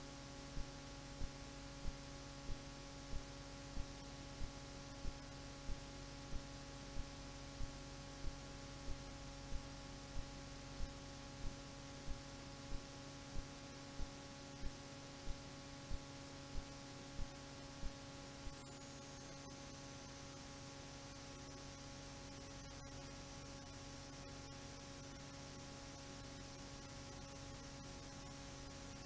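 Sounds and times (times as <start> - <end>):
electrical hum with hiss: 0.0 - 29.0.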